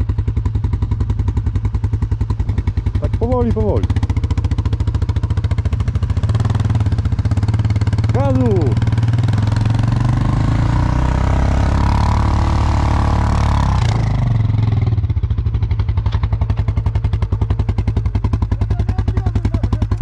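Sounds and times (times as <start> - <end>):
atv engine revving and idling: 0.0 - 20.0.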